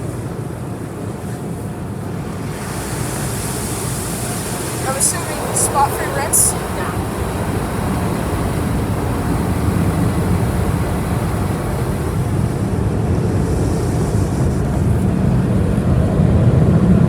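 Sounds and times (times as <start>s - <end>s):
car wash spray and blowers: 0.0s - 17.0s.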